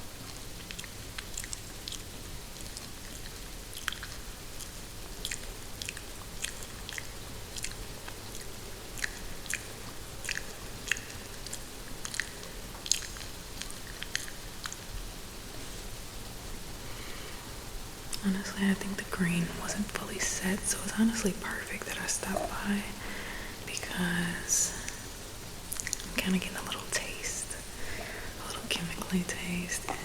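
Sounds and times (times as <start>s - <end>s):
recorded rain hiss: 0.0s - 30.0s.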